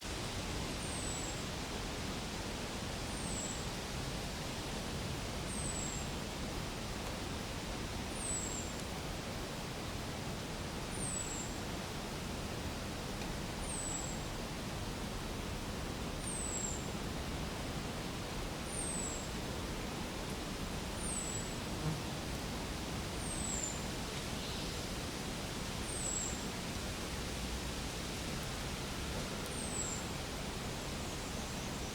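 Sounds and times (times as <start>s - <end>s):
outdoor background hiss: 0.0s - 31.9s.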